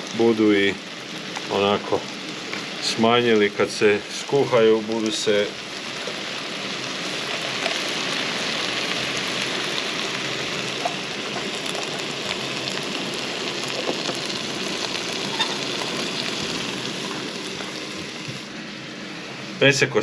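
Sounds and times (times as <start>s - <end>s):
vegetables sizzling in a pan: 0.0s - 19.6s.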